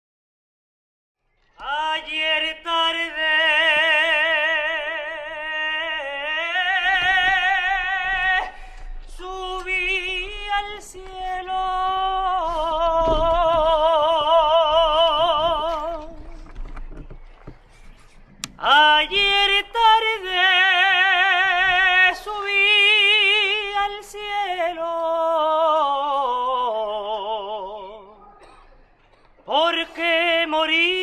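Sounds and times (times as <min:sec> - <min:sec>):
person singing with vibrato: 0:01.6 - 0:16.6, 0:18.5 - 0:28.2, 0:29.4 - 0:31.0.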